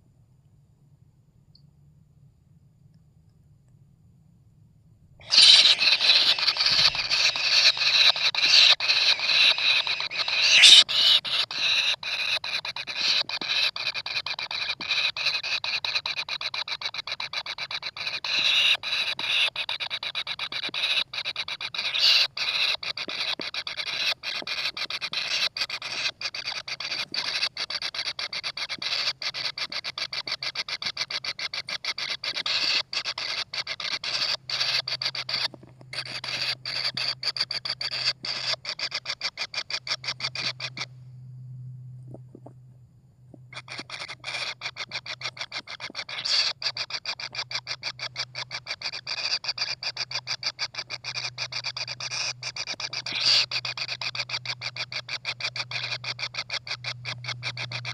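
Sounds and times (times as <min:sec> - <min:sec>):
nestlings rasping begging call: 0:05.2 - 0:40.9, 0:43.5 - 0:57.9.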